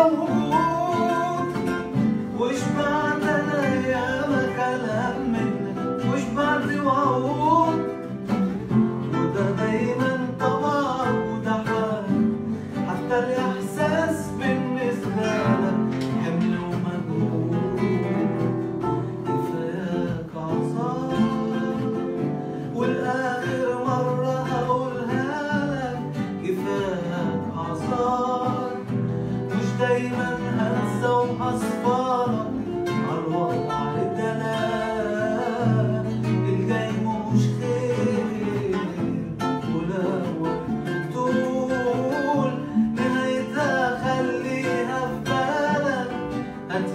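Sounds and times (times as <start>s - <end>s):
acoustic guitars plucking and strumming: 0.0s - 46.9s
man singing: 0.0s - 46.9s.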